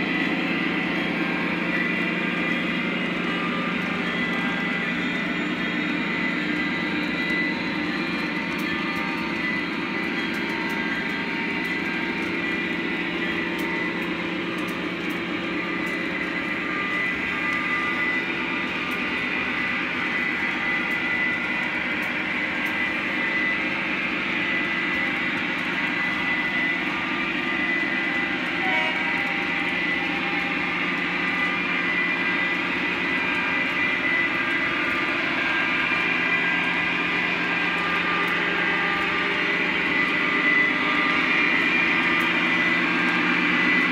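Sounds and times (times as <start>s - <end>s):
model train wheels rumbling: 0.0s - 43.9s.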